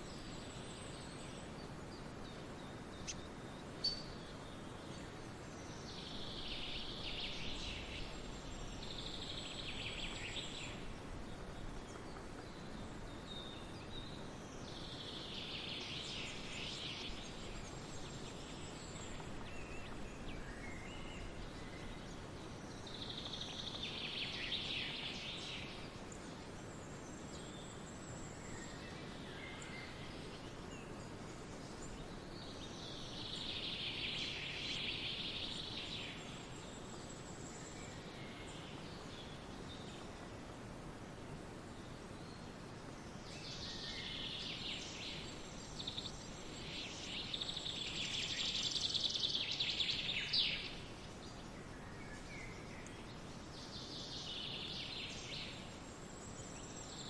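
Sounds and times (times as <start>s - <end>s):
soft background hiss: 0.0s - 57.0s
songbirds singing: 0.0s - 57.0s.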